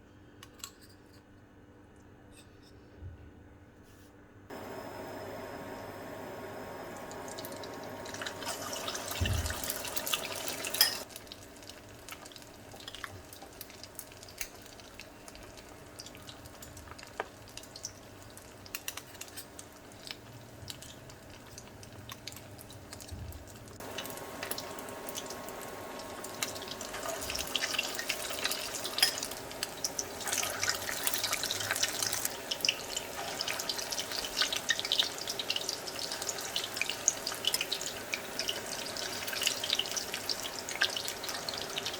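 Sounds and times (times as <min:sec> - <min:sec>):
deep-frying in hot oil: 0:04.6 - 0:41.9.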